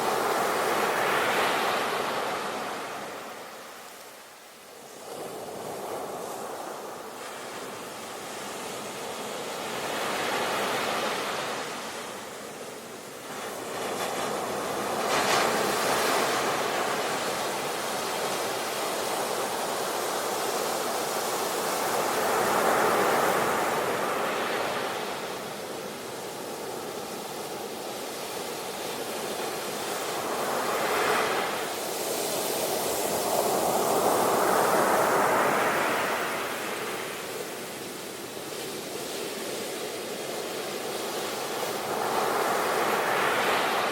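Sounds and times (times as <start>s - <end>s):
sea waves breaking on shore: 4.8s - 43.9s.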